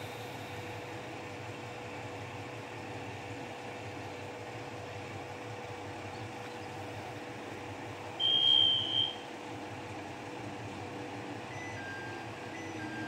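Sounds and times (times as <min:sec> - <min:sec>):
diesel railcar idling: 0:00.0 - 0:13.0.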